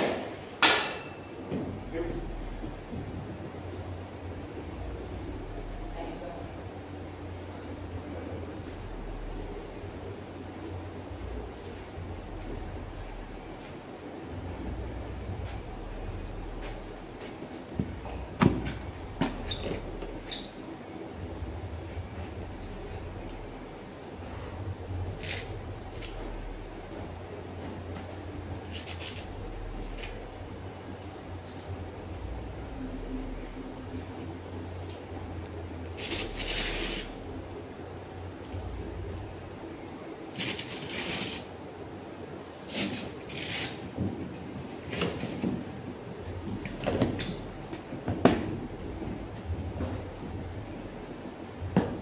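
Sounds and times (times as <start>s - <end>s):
air conditioner and fan hum: 0.0s - 52.0s.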